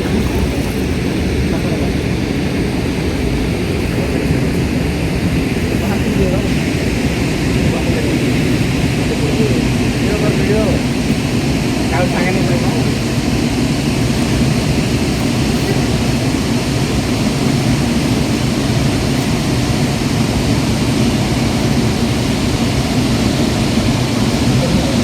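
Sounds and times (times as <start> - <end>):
waterfall rushing: 3.6 - 25.0.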